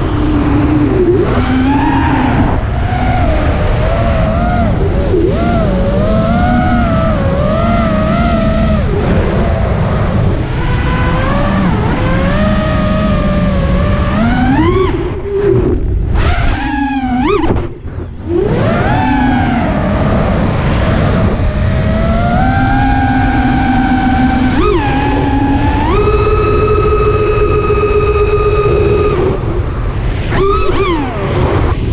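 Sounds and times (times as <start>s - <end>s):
drone motors whining: 0.0s - 31.9s.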